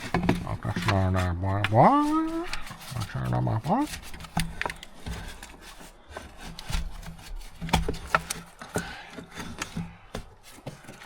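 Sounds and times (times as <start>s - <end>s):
parts clicking and knocking: 0.0s - 11.0s.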